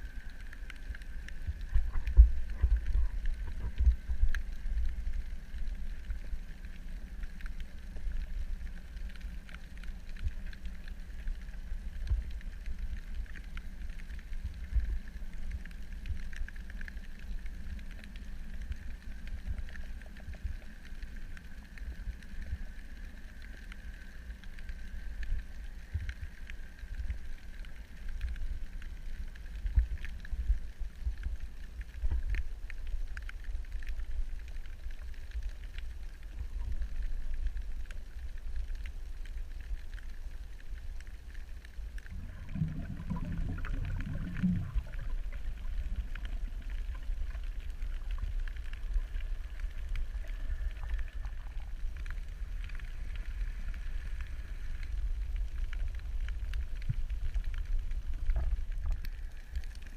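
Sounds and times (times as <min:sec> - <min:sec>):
faint steady hum: 0:00.0 - 0:59.9
faint ticks: 0:00.0 - 0:59.9
low underwater rumble: 0:00.0 - 0:59.9.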